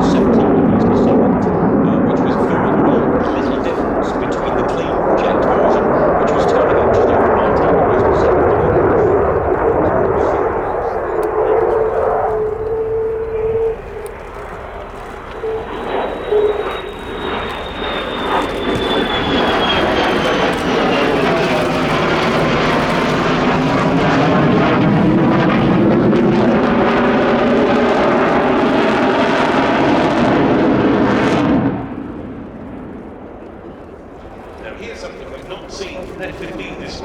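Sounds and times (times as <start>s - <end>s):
jet engine whine: 0.0s - 37.0s
loud jet noise: 0.0s - 37.0s.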